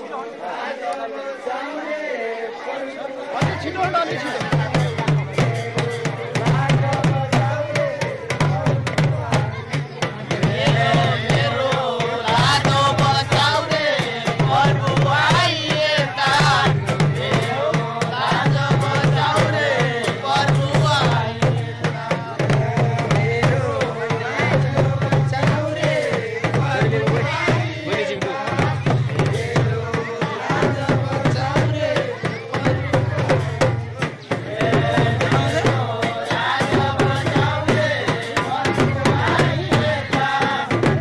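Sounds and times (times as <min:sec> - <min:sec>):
men singing together: 0:00.0 - 0:41.0
drum beats: 0:03.3 - 0:41.0.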